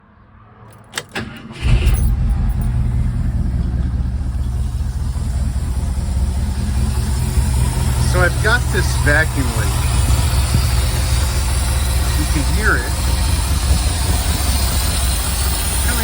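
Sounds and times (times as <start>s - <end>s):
pickup engine cranking and idling: 0.9s - 16.0s.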